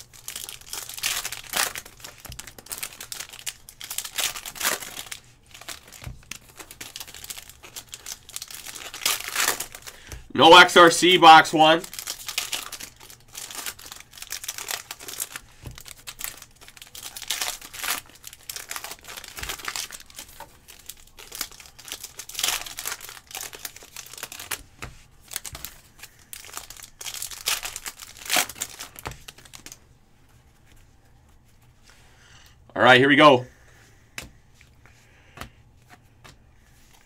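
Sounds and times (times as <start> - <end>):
foil wrapper crinkling and tearing: 0.0 - 29.8.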